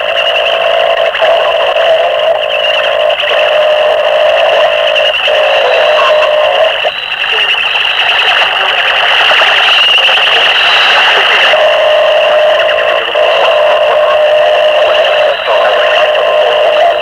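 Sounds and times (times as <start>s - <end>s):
harsh distorted electronic noise: 0.0s - 17.0s
high whining tone: 0.0s - 17.0s.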